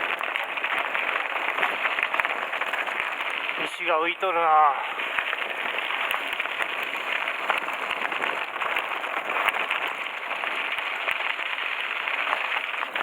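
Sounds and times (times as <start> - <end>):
bike tyres crunching over gravel: 0.0 - 13.0
stones clicking and rattling: 0.0 - 13.0.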